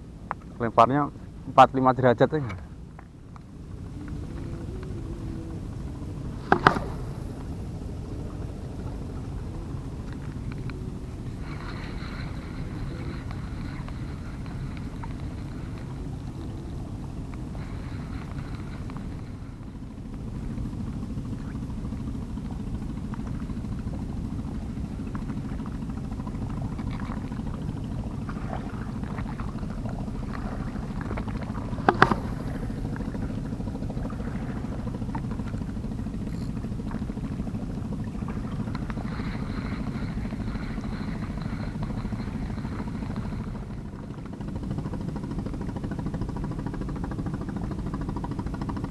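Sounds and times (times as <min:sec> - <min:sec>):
distant boat engine rumble: 0:00.0 - 0:48.9.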